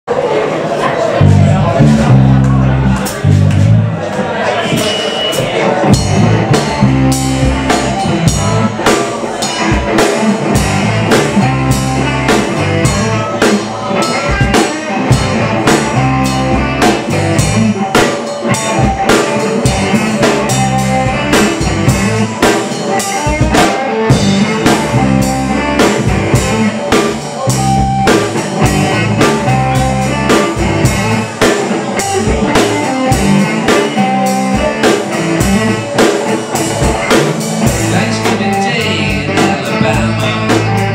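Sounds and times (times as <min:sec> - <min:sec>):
electric guitar: 0:01.0 - 0:40.9
drum kit beat: 0:01.2 - 0:40.9.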